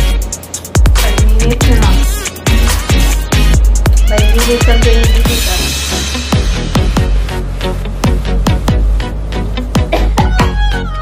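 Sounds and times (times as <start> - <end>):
electronic dance music: 0.0 - 9.0, 9.8 - 11.0.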